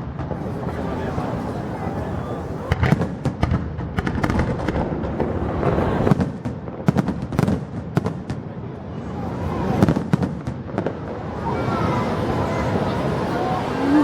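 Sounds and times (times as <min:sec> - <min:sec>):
fireworks bangs and crackles: 0:00.0 - 0:13.8.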